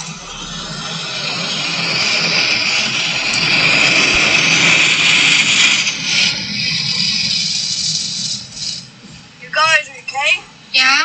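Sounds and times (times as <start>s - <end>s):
car wash water jets spraying: 0.0s - 8.9s.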